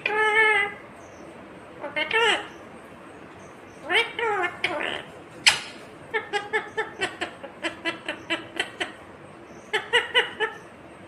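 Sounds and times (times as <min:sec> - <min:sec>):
parakeet chirping: 0:00.0 - 0:10.8.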